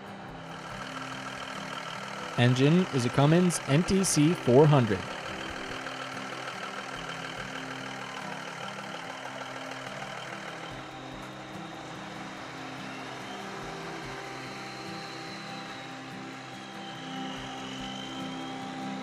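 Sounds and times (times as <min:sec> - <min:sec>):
diesel truck engine idling: 0:00.3 - 0:18.4.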